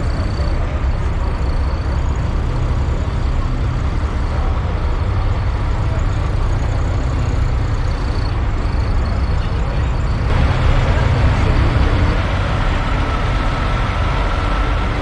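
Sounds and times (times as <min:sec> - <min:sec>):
truck diesel engines idling: 0:00.0 - 0:15.0.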